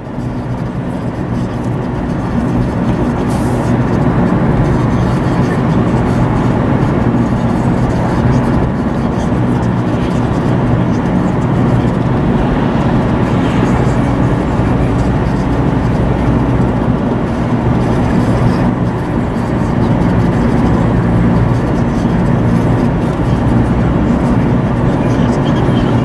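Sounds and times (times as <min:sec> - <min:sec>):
car engine drone: 0:00.0 - 0:26.0.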